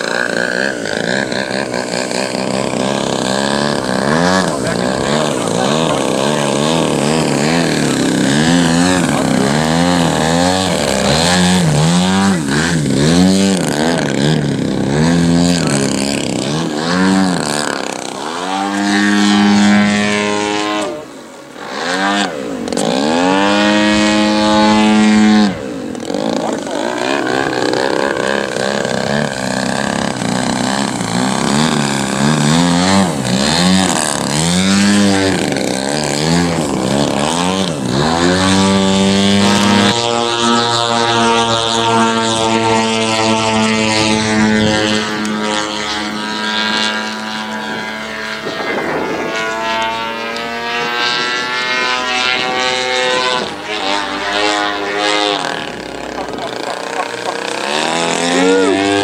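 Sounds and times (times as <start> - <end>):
model plane engine revving: 0.0 - 59.0.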